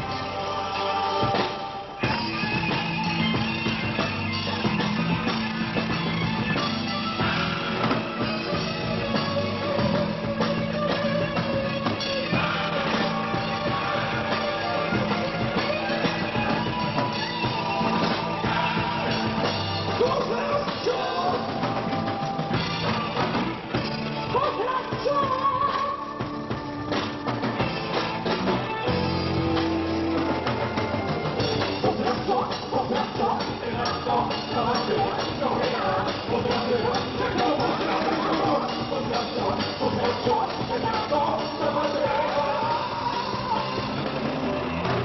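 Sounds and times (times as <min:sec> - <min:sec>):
person singing: 0:00.0 - 0:05.0, 0:05.8 - 0:22.9, 0:24.2 - 0:27.0, 0:28.8 - 0:45.0
rock band playing: 0:00.0 - 0:45.0.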